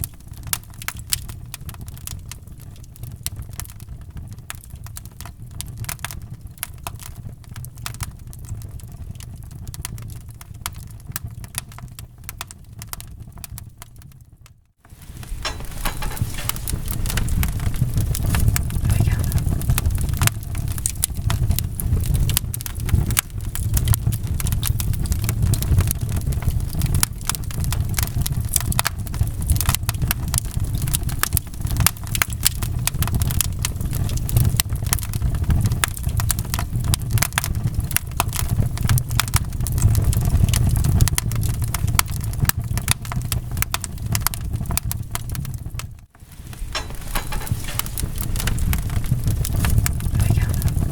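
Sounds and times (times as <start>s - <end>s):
low rumble of flames: 0.0s - 50.9s
wood fire crackling and popping: 0.0s - 50.9s.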